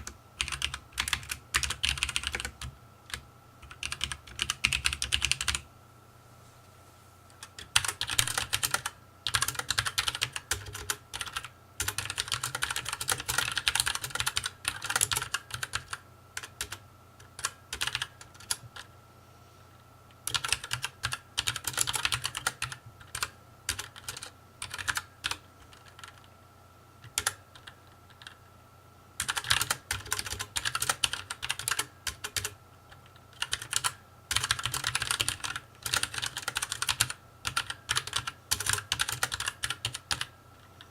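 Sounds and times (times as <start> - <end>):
mechanical keyboard typing: 0.0 - 5.6, 7.4 - 18.9, 20.2 - 26.3, 27.0 - 28.4, 29.2 - 40.9.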